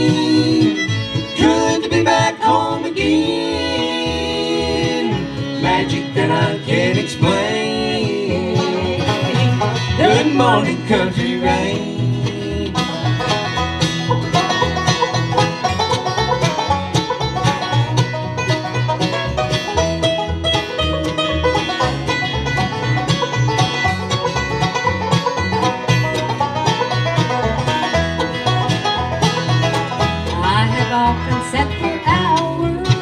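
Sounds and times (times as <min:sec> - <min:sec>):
banjo: 0:00.0 - 0:33.0
bluegrass band playing: 0:00.0 - 0:33.0.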